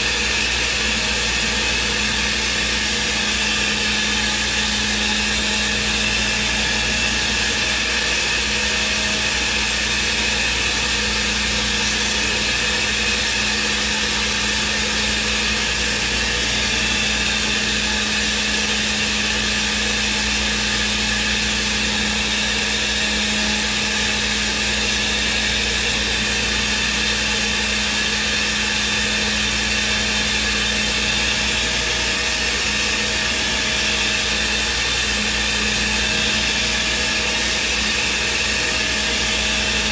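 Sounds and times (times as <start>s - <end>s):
router spindle running: 0.0s - 39.9s.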